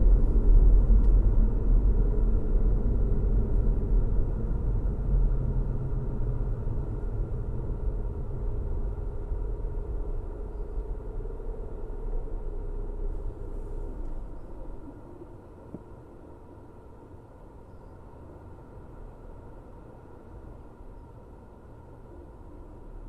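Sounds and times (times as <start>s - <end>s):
car driving on road: 0.0s - 23.0s.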